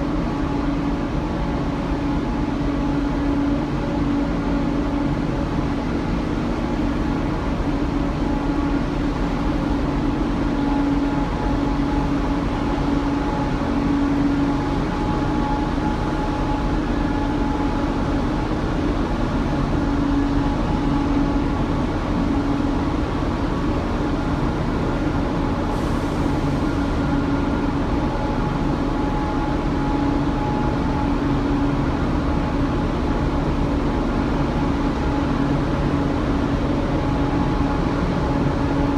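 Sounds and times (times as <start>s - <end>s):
ferry machinery drone: 0.0s - 38.9s.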